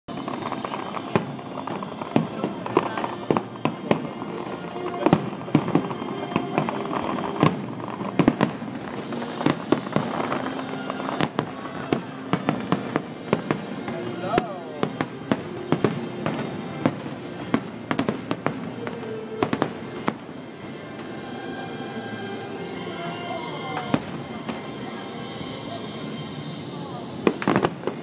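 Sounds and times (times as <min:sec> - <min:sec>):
firework rumble and crackle: 0:00.1 - 0:22.4, 0:23.1 - 0:28.0
music playing: 0:00.1 - 0:28.0.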